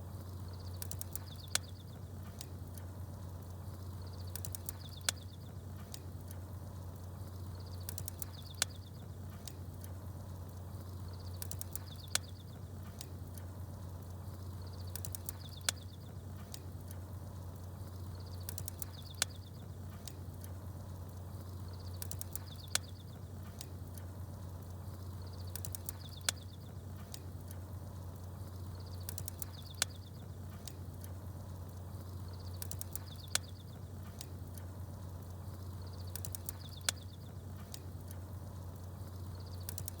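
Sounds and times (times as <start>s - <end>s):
campfire crackling and popping: 0.0s - 40.0s
small birds chirping: 0.0s - 40.0s.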